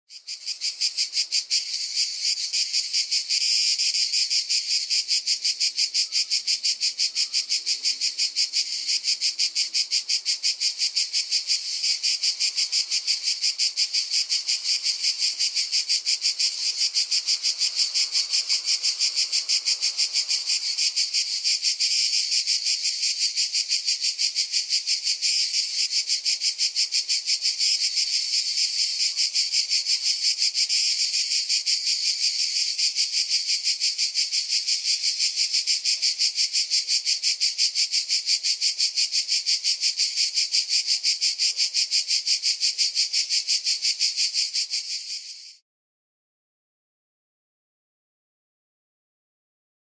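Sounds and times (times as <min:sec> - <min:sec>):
cicada buzzing: 0:00.1 - 0:45.6.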